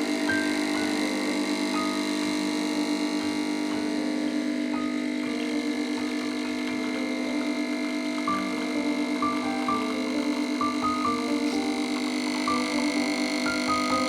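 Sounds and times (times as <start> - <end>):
calm electric piano music: 0.0 - 14.0.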